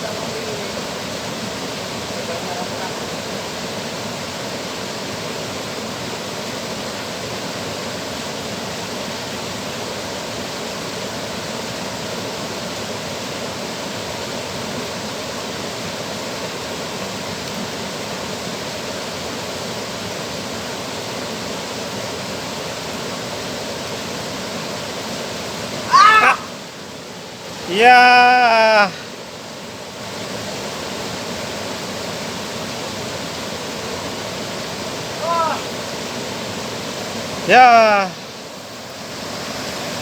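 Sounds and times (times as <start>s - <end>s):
water rushing through dam: 0.0s - 40.0s.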